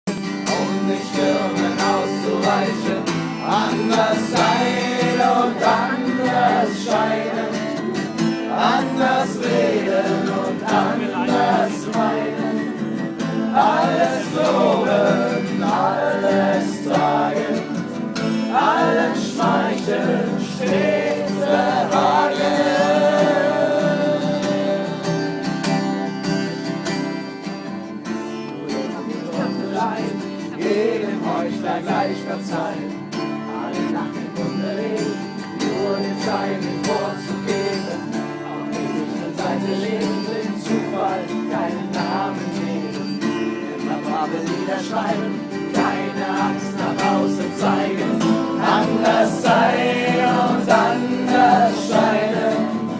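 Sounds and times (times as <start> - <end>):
acoustic guitar strumming: 0.1 - 52.9
people singing: 0.1 - 52.9.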